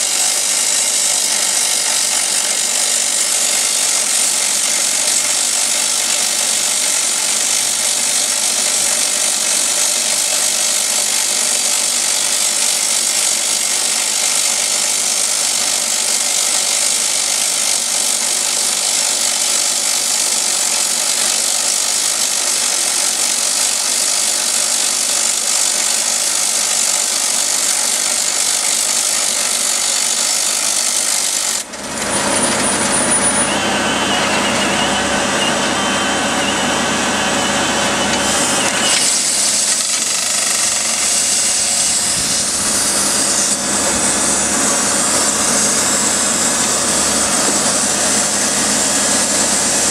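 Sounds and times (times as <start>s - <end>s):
rock drill boring into granite: 0.0s - 49.9s
steady machine noise: 0.0s - 49.9s.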